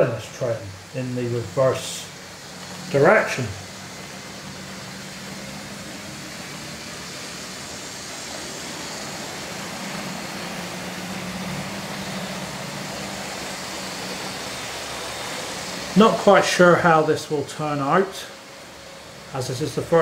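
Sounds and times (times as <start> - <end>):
electric motor hum: 0.0 - 20.0
model train wheels on rails: 0.1 - 17.6.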